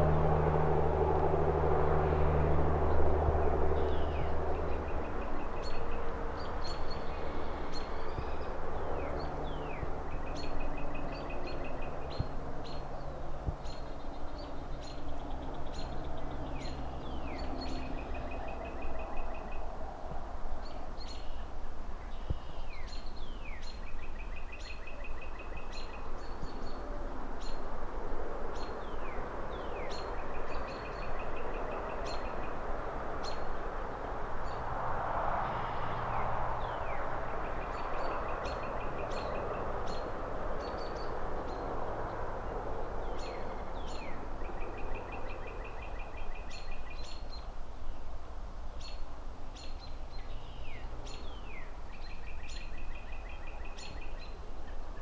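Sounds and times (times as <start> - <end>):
car passing: 0.0 - 55.0
distant city traffic: 0.0 - 55.0
trees rustling: 0.0 - 55.0.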